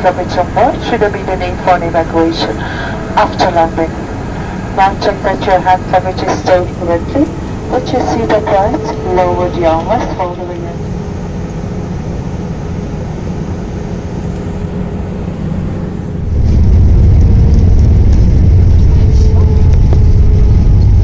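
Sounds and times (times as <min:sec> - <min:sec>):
airplane cabin noise: 0:00.0 - 0:21.0
deep rumble: 0:00.0 - 0:21.0.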